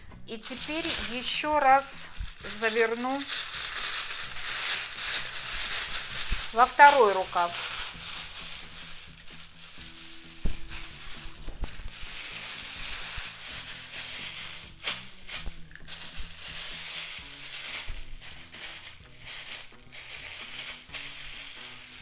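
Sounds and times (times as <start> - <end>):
plastic sleeve rustling and crinkling: 0.3 - 22.0.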